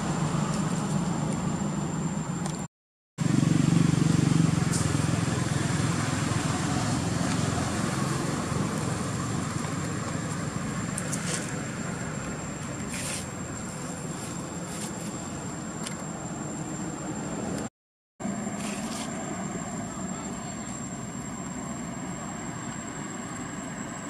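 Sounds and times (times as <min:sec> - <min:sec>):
passing vehicle rumble: 0:03.2 - 0:24.0
traffic hiss: 0:03.2 - 0:24.0.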